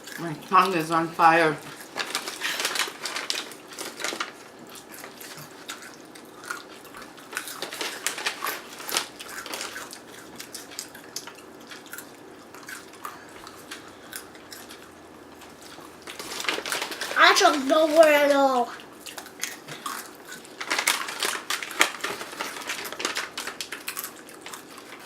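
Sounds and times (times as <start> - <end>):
people chewing crunchy snacks: 1.6 - 25.0.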